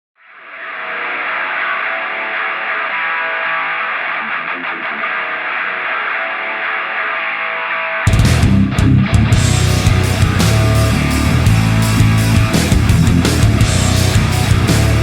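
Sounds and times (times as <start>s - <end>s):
distorted electric guitar: 0.2s - 15.0s
rock band playing: 0.8s - 15.0s.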